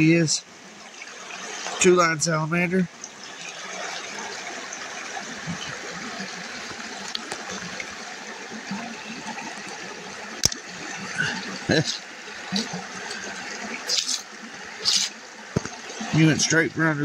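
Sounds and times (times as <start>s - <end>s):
creek water trickling over rocks: 0.0s - 17.0s.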